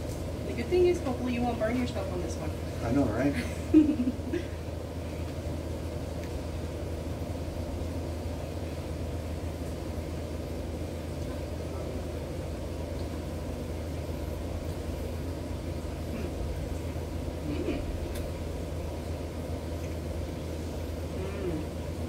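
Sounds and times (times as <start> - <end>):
noisy rumble: 0.0 - 22.0
steady low hum: 0.0 - 22.0.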